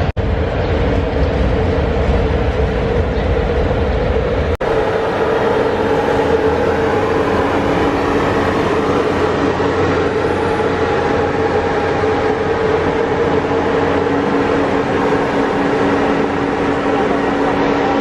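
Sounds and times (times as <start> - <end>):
locomotive engine humming: 0.0 - 18.0.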